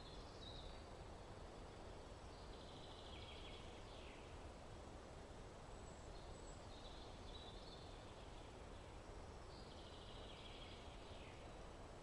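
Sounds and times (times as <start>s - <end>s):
songbird singing: 0.0s - 4.5s, 5.6s - 12.0s.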